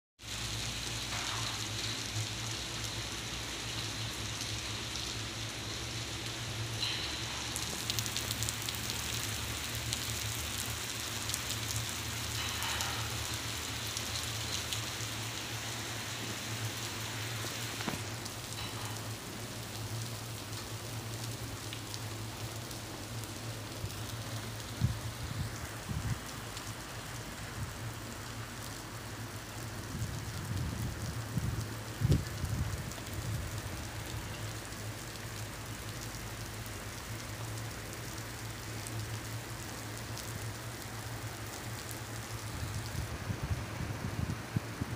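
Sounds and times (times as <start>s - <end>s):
rain on wet road: 0.2s - 44.9s.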